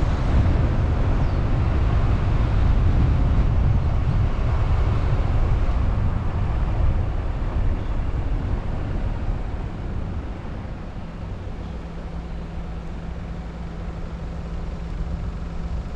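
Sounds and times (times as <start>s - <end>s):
low engine hum: 0.0s - 15.9s
road and wind noise: 0.0s - 15.9s.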